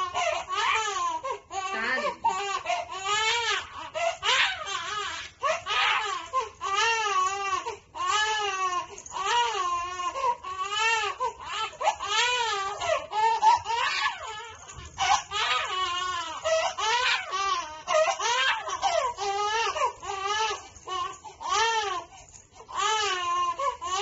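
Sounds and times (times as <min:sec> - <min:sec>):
infant crying: 0:00.0 - 0:24.0.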